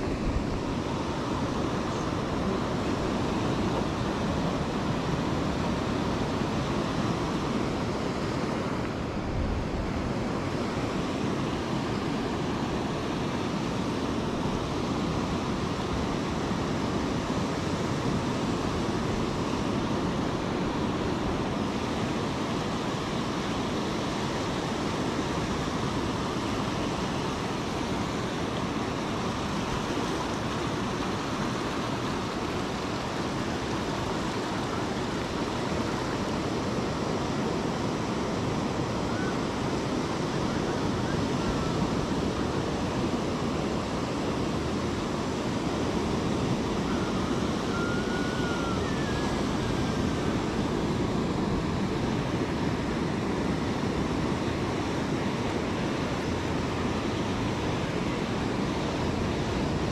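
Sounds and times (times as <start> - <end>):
sea surf on rocky shore: 0.0 - 59.9.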